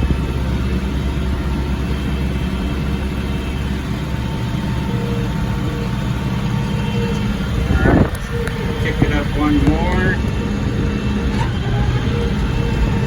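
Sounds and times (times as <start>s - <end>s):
tractor engine humming: 0.0s - 13.0s.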